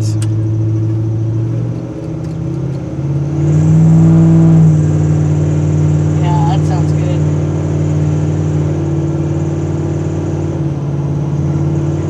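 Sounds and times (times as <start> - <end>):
truck exhaust rumble: 0.0 - 12.0.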